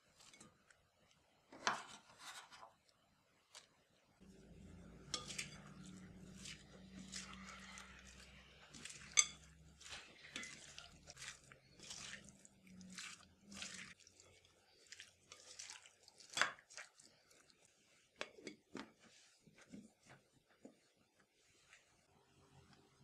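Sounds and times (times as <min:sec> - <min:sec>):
wet squelching of stirred chicken: 0:00.0 - 0:22.9.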